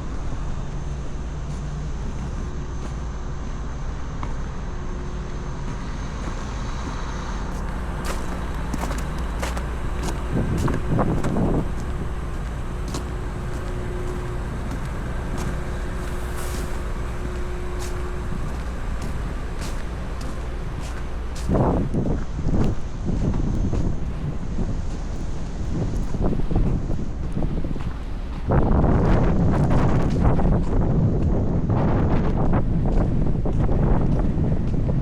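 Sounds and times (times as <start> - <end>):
vehicle engines running: 0.0 - 35.0.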